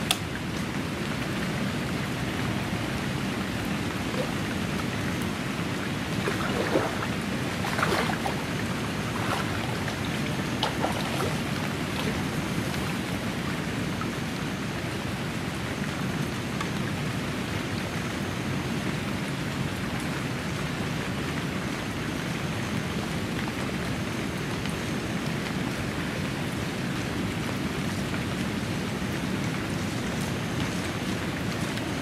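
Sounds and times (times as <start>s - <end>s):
rain falling on lake water: 0.0s - 32.0s.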